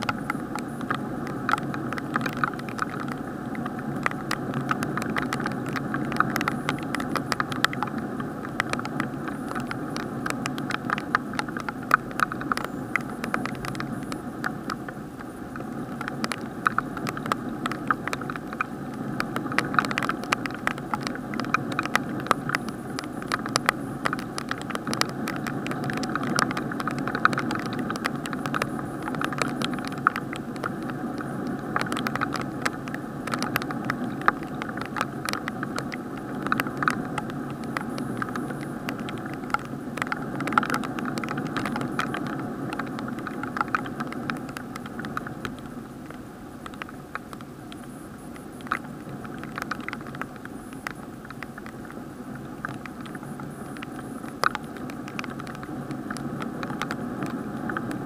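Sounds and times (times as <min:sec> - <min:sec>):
muffled rain hiss: 0:00.0 - 0:58.0
raindrops ticking on casing: 0:00.0 - 0:58.0.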